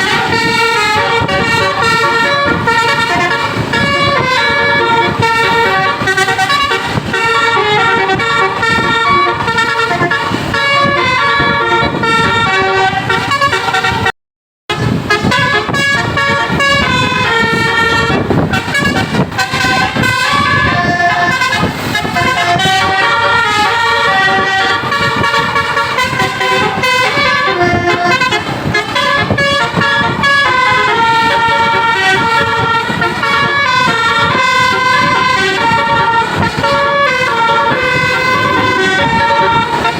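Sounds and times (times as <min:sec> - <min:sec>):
musical air horn melodies: 0:00.0 - 0:14.1, 0:14.7 - 0:39.9.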